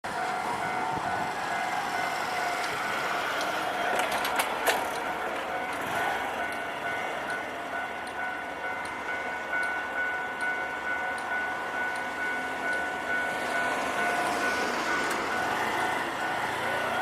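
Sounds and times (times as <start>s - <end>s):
level crossing alarm ringing: 0.1s - 17.0s.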